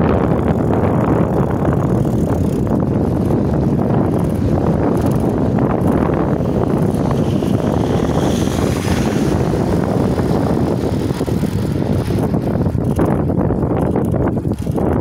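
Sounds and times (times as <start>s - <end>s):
high wind hiss: 0.0s - 15.0s
wind rumbling on microphone: 0.0s - 15.0s.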